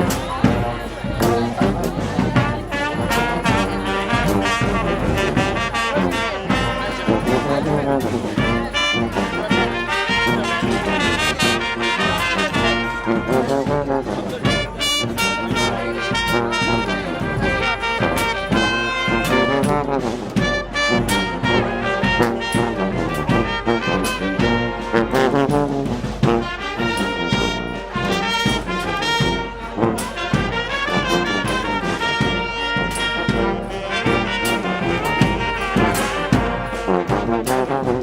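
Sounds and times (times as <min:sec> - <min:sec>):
brass band playing: 0:00.0 - 0:38.0.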